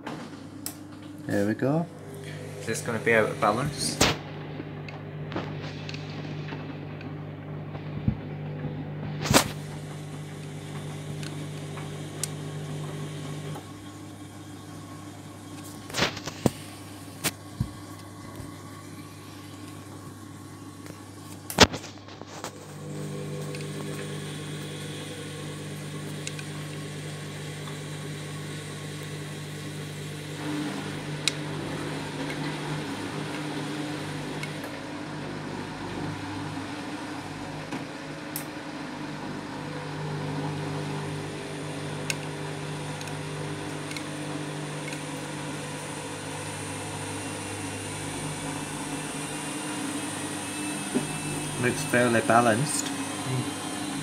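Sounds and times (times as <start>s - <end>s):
washing machine drum humming: 0.0s - 54.0s.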